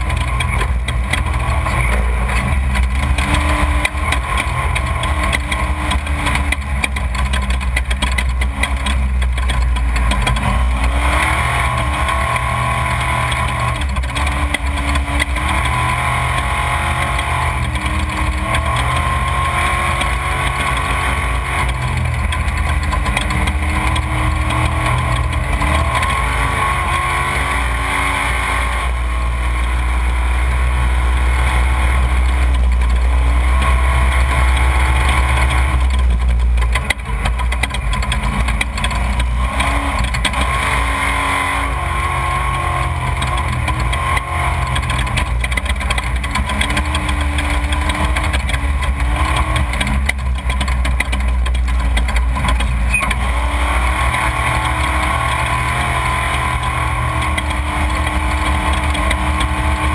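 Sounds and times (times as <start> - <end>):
race vehicle engine revving: 0.0 - 59.9.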